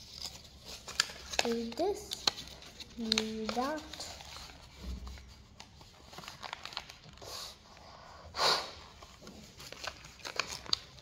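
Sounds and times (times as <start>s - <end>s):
paper rustling and crinkling: 0.0s - 7.6s, 8.9s - 11.0s.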